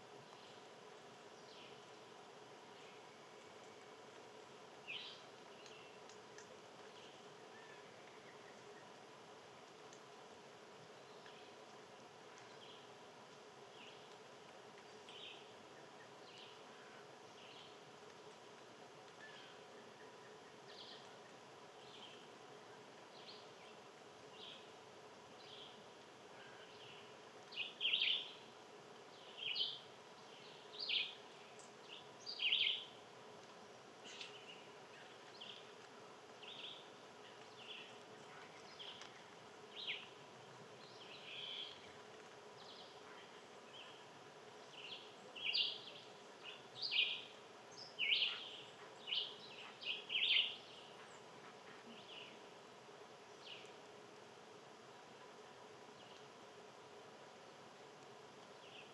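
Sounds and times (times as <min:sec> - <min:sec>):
faint steady hum: 0:00.0 - 0:58.9
small birds chirping: 0:00.2 - 0:54.1, 0:57.3 - 0:58.9.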